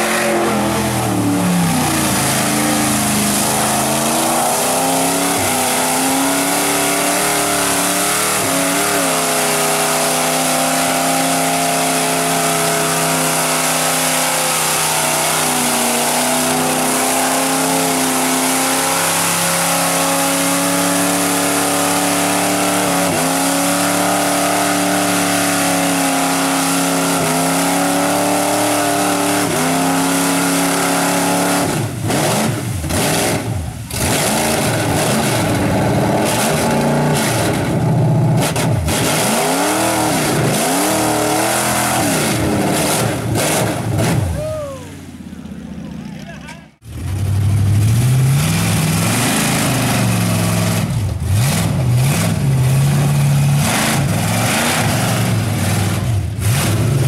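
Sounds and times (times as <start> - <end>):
truck engine revving in mud: 0.0 - 57.0.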